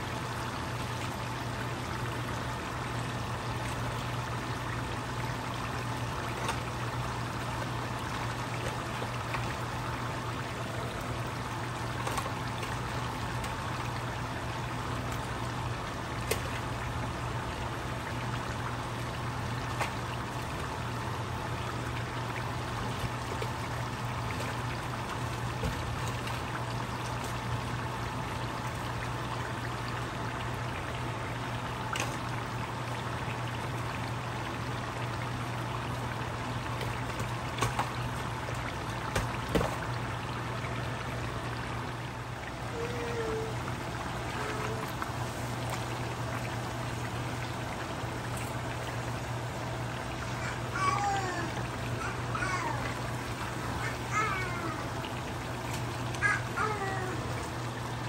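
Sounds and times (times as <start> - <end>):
low steady hum: 0.0 - 58.0
oil bubbling in a pan: 0.0 - 58.0.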